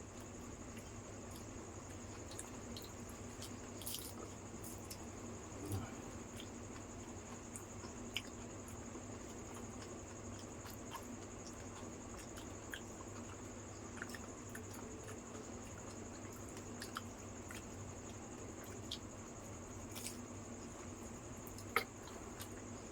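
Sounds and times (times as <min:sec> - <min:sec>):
people chewing wetly: 0:00.0 - 0:22.9
steady low hum: 0:00.0 - 0:22.9.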